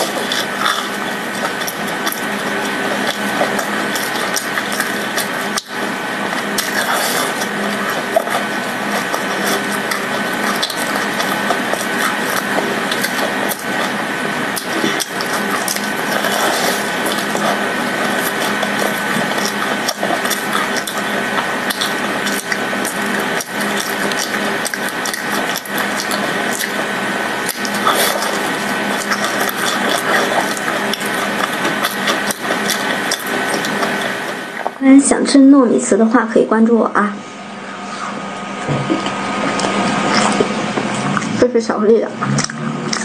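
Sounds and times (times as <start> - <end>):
chewing with mouth clicks: 0.0 - 34.8, 38.8 - 41.4, 42.2 - 43.0
faint hum: 0.0 - 43.0.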